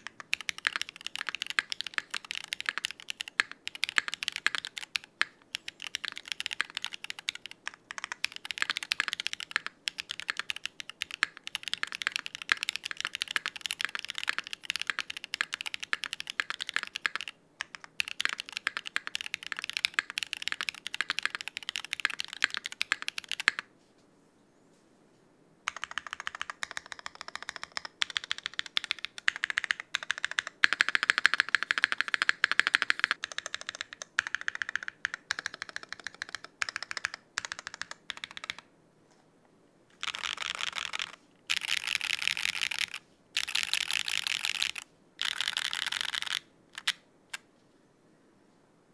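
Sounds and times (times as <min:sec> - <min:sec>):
mechanical keyboard typing: 0:00.0 - 0:23.7, 0:25.7 - 0:38.7, 0:40.0 - 0:47.4.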